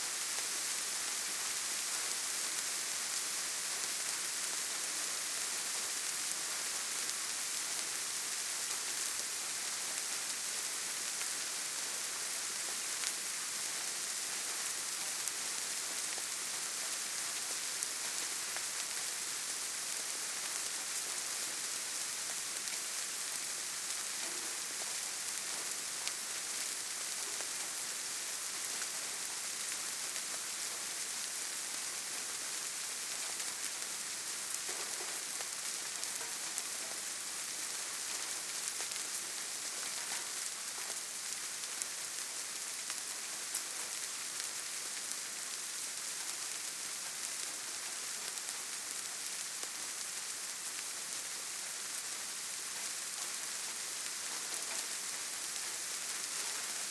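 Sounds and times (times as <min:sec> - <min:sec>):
rain hissing: 0:00.0 - 0:56.9.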